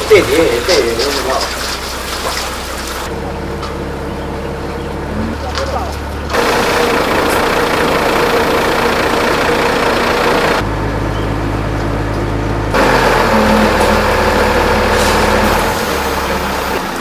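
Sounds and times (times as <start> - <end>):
machine humming: 1.6 - 16.8.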